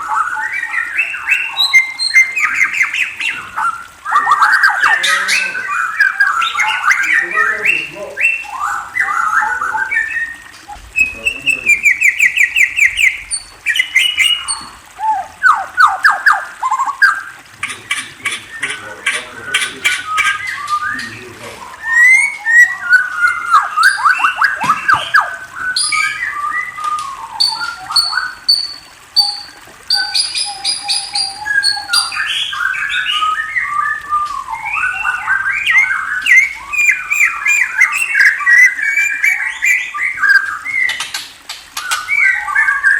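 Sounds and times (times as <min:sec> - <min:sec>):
songbird singing trills: 0:00.0 - 0:41.2.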